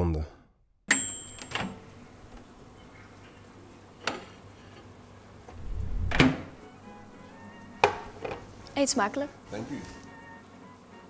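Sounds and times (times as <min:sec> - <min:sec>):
microwave oven humming: 0:00.9 - 0:11.0.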